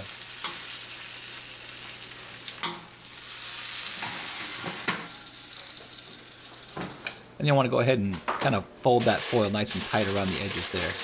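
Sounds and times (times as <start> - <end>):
chilies sizzling: 0.0 - 7.1, 9.0 - 11.0.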